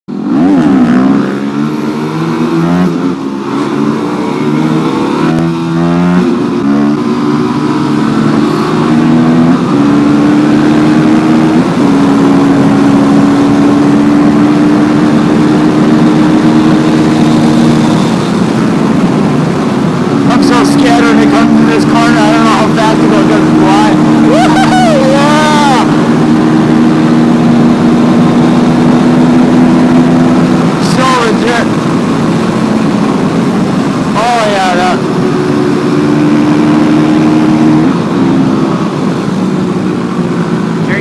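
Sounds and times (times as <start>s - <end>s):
motorcycle engine shifting gears: 0.1s - 41.0s.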